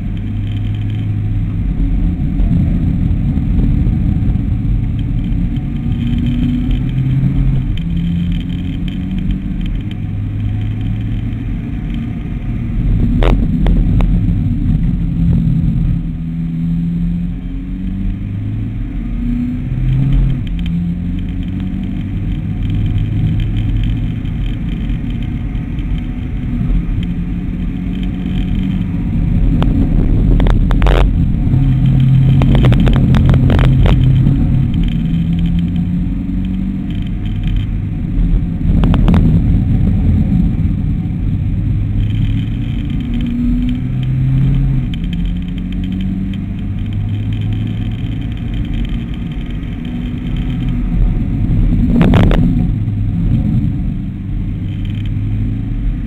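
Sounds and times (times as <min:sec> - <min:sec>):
car engine revving in cabin: 0:00.0 - 0:56.0
road rumble: 0:00.0 - 0:56.0.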